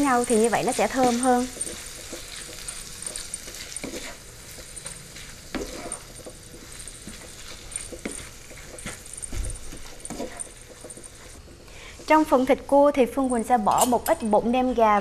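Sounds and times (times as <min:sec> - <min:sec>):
spatula scraping and tapping pan: 0:00.0 - 0:12.4
food sizzling in a pan: 0:00.0 - 0:14.6.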